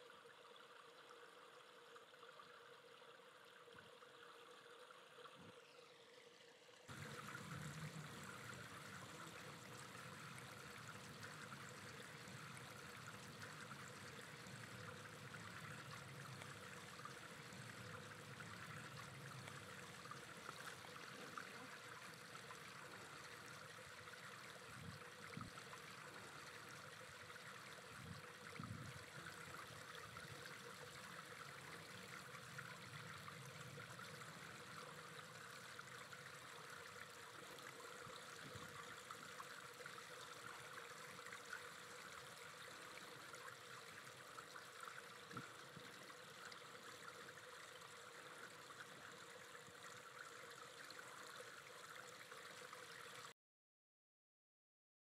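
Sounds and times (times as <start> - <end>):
faint hum: 0.0 - 52.4
running water noise: 0.0 - 53.3.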